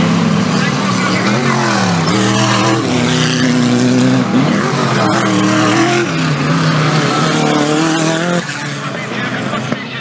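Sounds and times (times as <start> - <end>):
race car engine running hard: 0.0 - 10.0.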